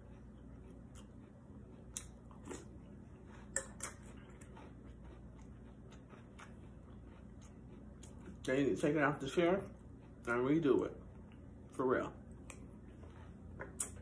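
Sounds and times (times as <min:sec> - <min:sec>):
person chewing cereal: 0:00.0 - 0:14.0.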